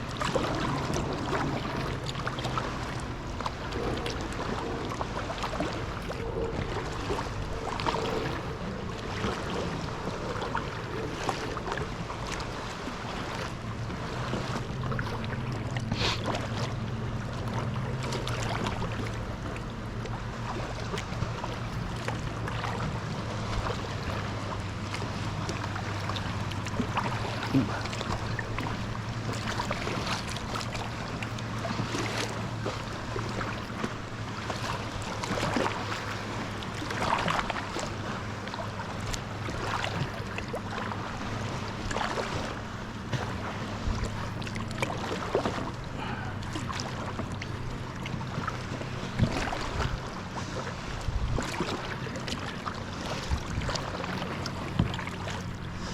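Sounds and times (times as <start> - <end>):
low hum: 0.0 - 50.2
water splashing against kayak: 0.0 - 55.9.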